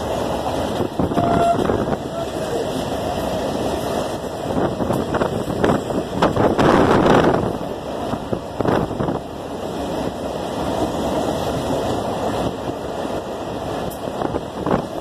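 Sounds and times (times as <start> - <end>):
train wheels clattering on rails: 0.0 - 15.0
wind rushing past microphone: 0.0 - 15.0.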